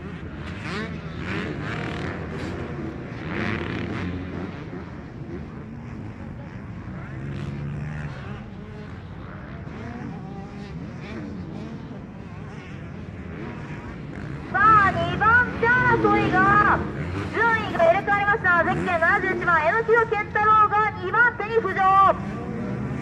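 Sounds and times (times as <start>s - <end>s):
motocross bikes racing: 0.0s - 23.0s.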